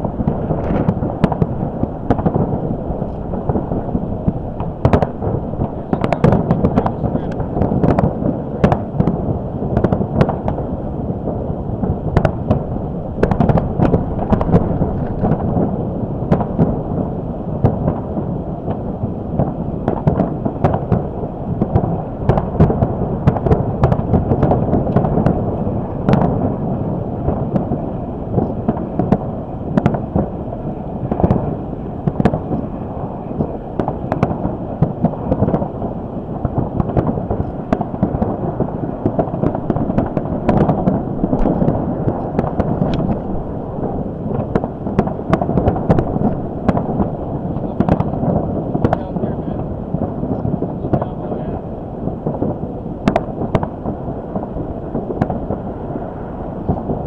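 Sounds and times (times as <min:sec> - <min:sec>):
fireworks bangs and crackles: 0:00.0 - 0:57.0
wind buffeting microphone: 0:00.0 - 0:57.0.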